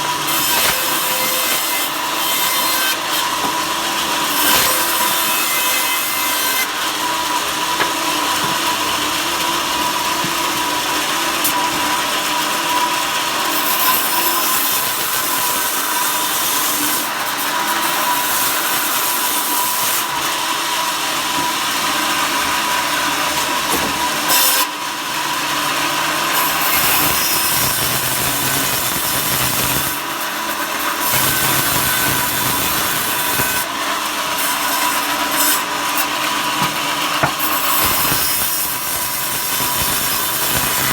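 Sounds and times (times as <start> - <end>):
power saw cutting wood: 0.0 - 40.9.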